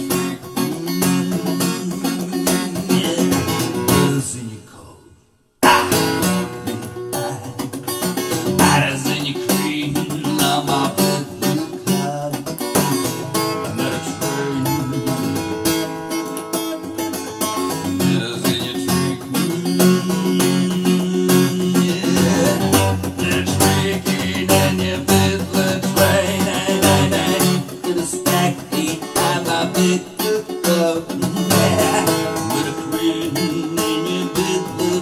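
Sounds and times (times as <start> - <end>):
strummed acoustic guitar music: 0.0 - 4.5, 5.6 - 35.0.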